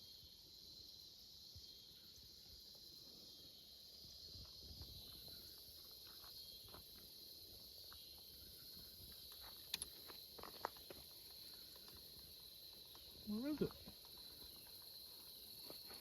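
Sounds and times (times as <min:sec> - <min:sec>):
crickets and insects chirring: 0:00.0 - 0:16.0.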